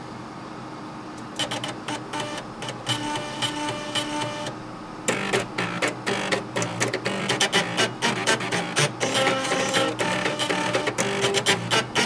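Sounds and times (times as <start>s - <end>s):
floppy drives playing buzzing melody: 1.4s - 12.0s.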